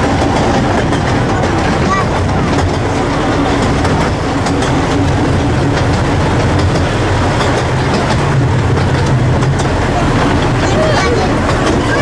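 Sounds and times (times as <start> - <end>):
locomotive engine drone: 0.0 - 12.0
wheels clicking over rail joints: 0.0 - 12.0.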